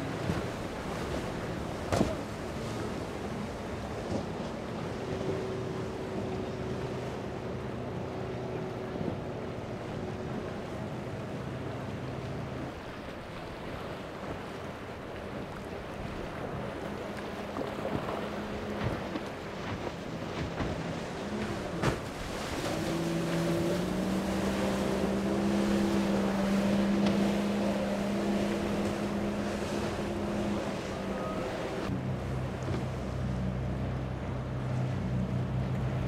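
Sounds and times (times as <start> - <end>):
powerboat engines droning: 0.0 - 36.0
surf and spray wash: 0.0 - 36.0.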